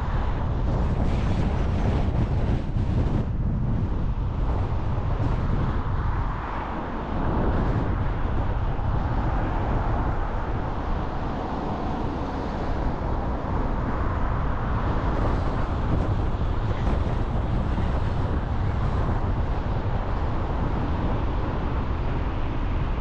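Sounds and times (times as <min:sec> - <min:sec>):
car road noise: 0:00.0 - 0:23.0.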